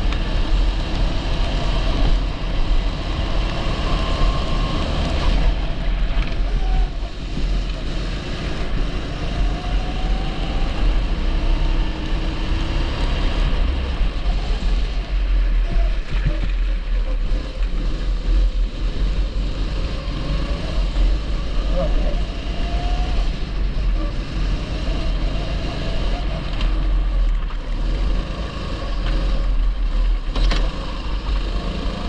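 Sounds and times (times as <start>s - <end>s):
go-kart engine running: 0.0s - 32.0s.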